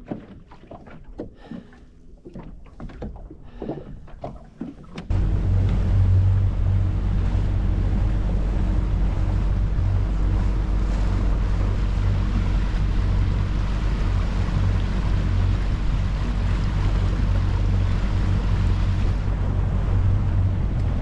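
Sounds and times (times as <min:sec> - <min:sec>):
outboard engine running: 0:00.0 - 0:21.0.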